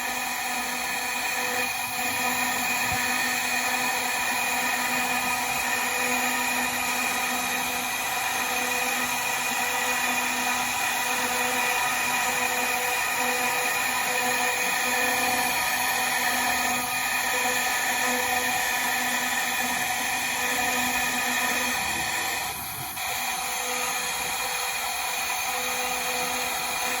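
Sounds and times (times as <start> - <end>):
router spindle whining while carving wood: 0.0 - 27.0.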